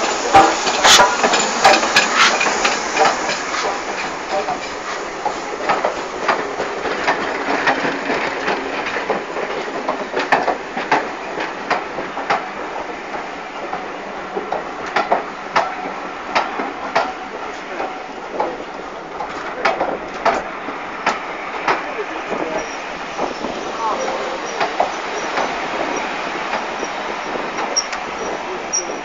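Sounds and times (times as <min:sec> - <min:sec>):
rumble and rattle of moving train: 0:00.0 - 0:29.0
train wheels clacking over rail joints: 0:00.0 - 0:29.0.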